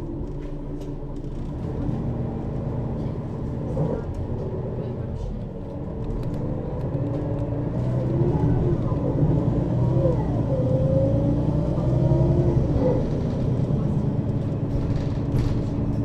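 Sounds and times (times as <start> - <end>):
bus engine and gearbox whine: 0.0 - 16.0.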